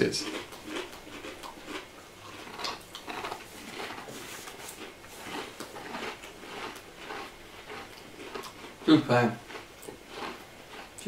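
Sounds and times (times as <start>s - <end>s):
crunching pastry biscuits: 0.0s - 11.0s.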